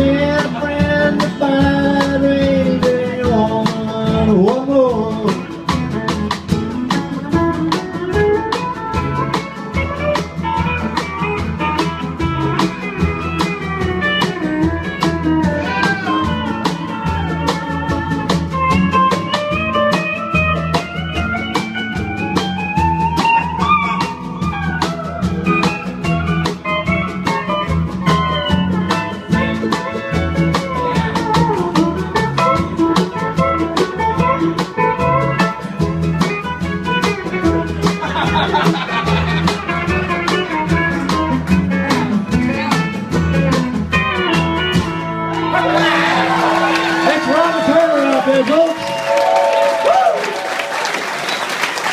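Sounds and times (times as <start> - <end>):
country band playing: 0.0 - 51.9
lead guitar solo: 5.9 - 50.9.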